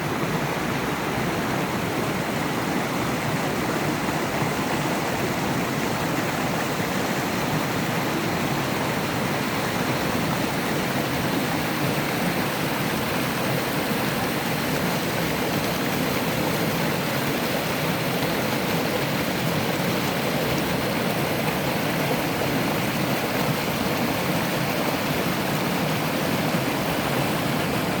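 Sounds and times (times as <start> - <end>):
stream water cascading over rocks: 0.0 - 28.0.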